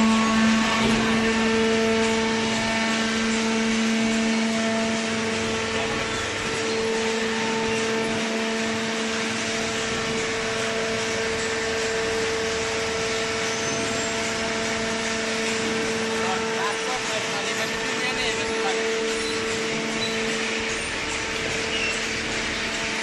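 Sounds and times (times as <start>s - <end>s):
electric motor and pump humming: 0.0s - 23.0s.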